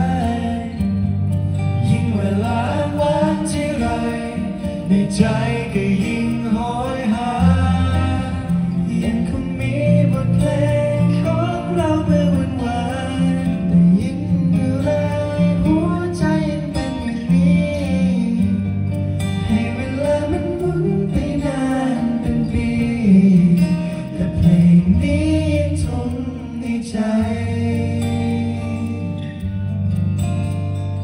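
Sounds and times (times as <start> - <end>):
men singing a pop ballad: 0.0 - 30.4
low bass notes: 0.0 - 31.0
strummed acoustic guitar: 0.0 - 31.0.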